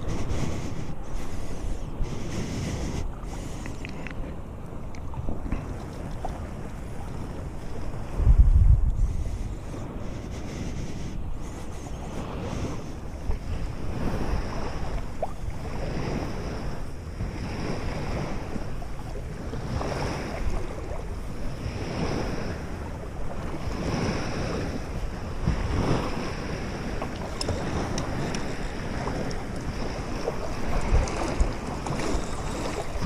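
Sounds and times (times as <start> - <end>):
water lapping in small waves: 0.0 - 33.0
wind buffeting microphone: 0.0 - 33.0.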